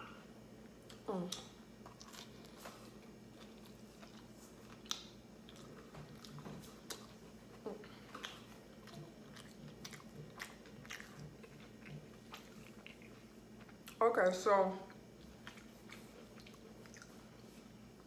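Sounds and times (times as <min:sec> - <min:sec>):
person chewing pizza: 0:00.6 - 0:14.0, 0:14.8 - 0:18.0.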